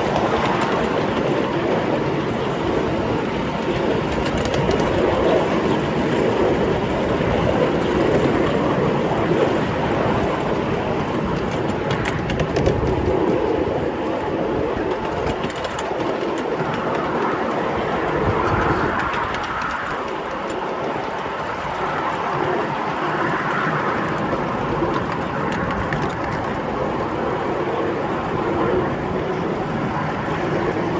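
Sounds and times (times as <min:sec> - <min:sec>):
wheels rumbling on rails: 0:00.0 - 0:30.9.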